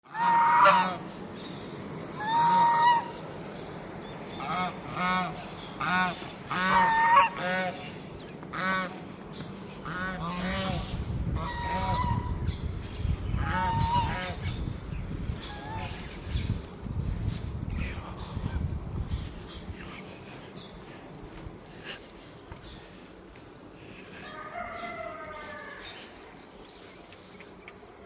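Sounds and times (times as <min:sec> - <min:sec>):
farm birds calling: 0:00.0 - 0:28.0.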